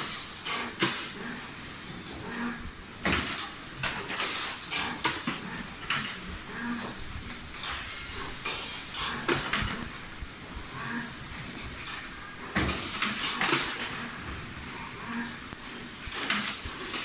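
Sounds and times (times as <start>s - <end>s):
wire bending machine clatter: 0.0s - 17.0s.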